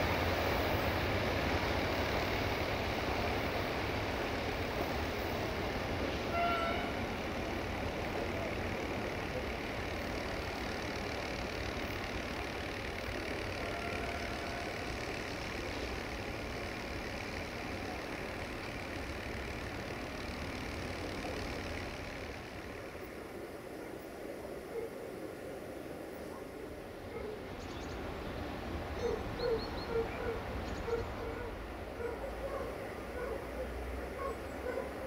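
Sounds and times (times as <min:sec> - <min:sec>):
distant diesel engine rumble: 0:00.0 - 0:35.0.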